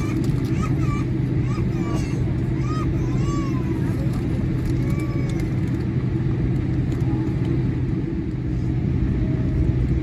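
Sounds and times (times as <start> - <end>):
aircraft engine rumble in cabin: 0.0 - 10.0.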